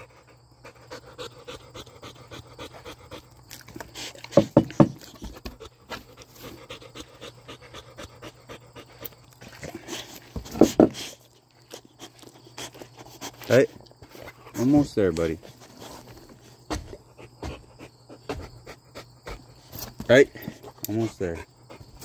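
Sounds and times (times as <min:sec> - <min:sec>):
dog panting quickly: 0:00.0 - 0:14.8, 0:15.4 - 0:19.7, 0:20.3 - 0:22.0.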